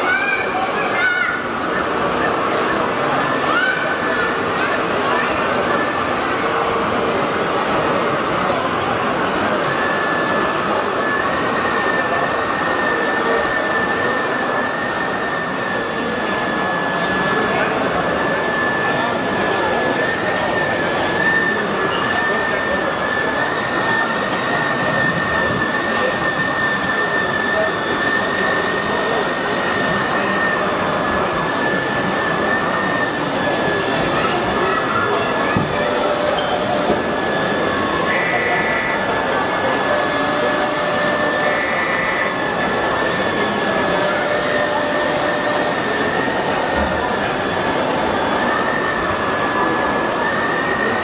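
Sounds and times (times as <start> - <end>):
toy electric motor whining: 0.0 - 51.0.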